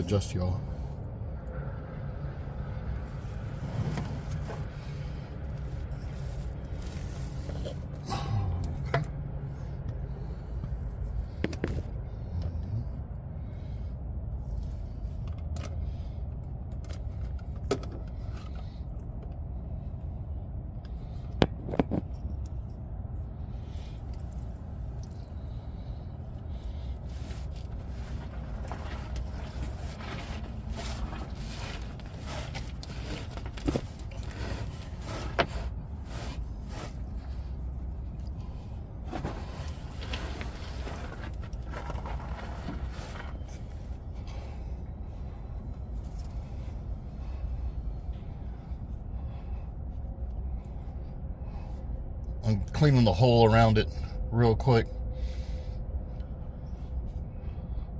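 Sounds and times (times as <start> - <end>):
steady low rumble: 0.0 - 57.9.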